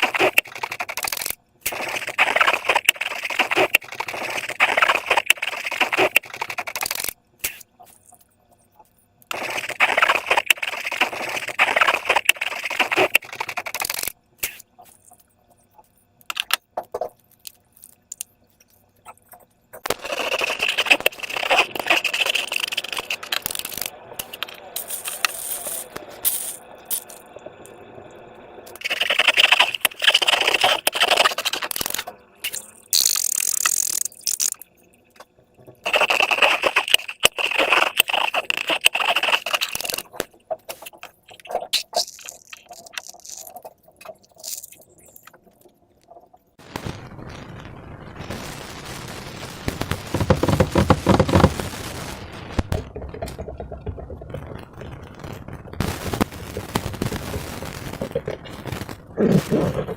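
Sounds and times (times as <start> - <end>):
air pockets crackling and popping: 0.0 - 8.0, 9.2 - 15.0, 16.3 - 27.2, 28.8 - 34.7, 35.6 - 46.2, 49.7 - 59.9.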